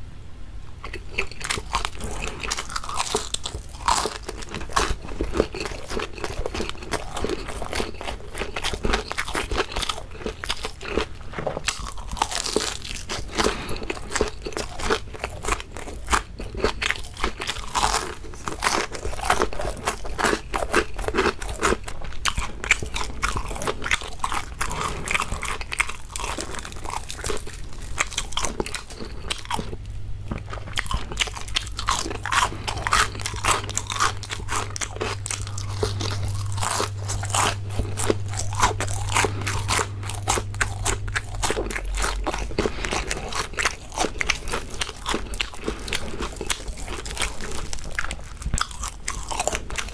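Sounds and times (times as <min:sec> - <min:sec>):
crunching and chewing fried food: 0:00.8 - 0:49.9.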